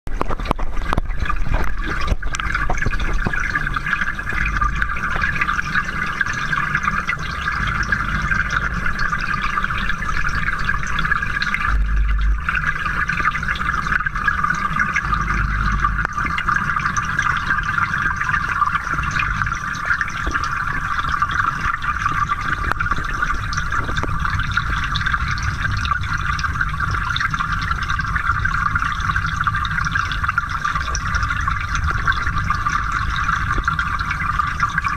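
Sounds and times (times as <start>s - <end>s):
underwater bubbling water: 0.1s - 34.9s.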